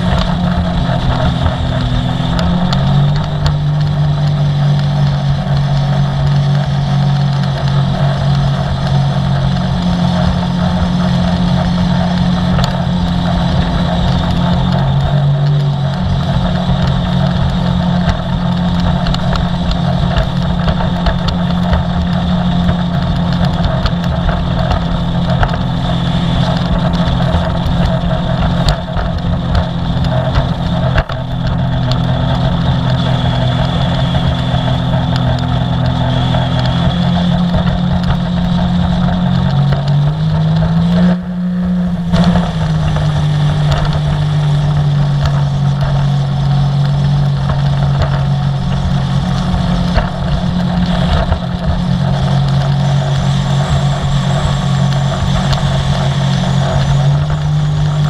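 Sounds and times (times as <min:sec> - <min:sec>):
watercraft engine running: 0:00.0 - 0:58.0.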